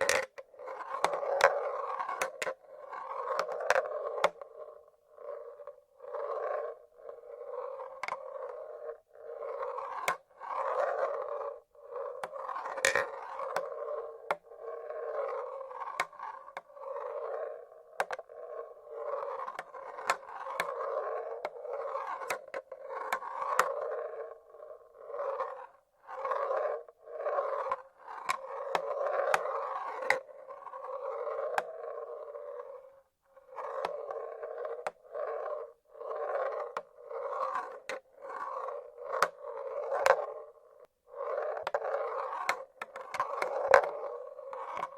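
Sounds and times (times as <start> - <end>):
marbles rolling on wooden tracks: 0.0 - 44.9.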